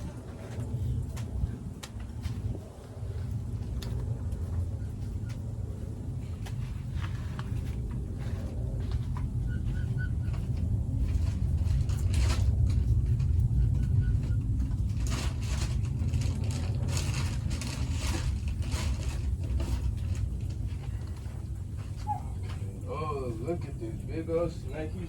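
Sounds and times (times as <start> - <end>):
rattles and crunches: 0.0 - 22.8
vehicle rumbling on rough track: 0.0 - 25.0.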